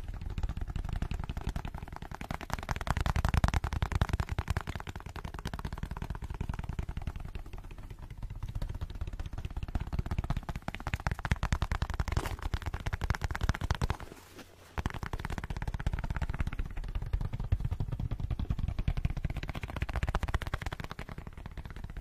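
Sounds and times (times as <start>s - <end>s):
fast fingernail tapping on case: 0.0s - 14.1s, 14.8s - 22.0s.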